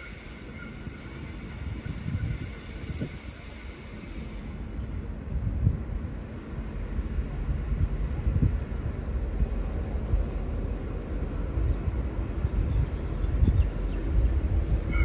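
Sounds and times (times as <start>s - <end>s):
diesel locomotive train rumbling: 0.0s - 15.0s.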